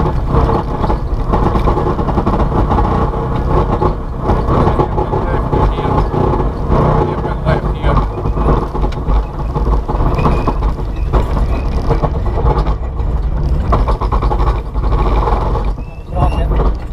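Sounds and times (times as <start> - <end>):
car engine under load: 0.0 - 16.9
knocks and rattles: 0.0 - 16.9.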